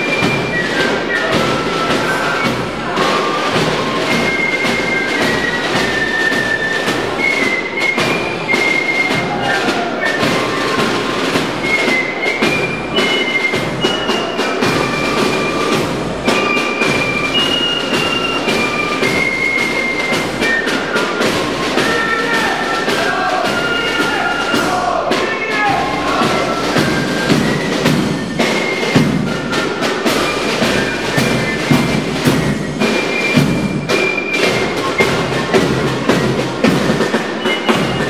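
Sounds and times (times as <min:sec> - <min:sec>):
fife melody: 0:00.0 - 0:38.0
rapid drumming: 0:00.0 - 0:38.0.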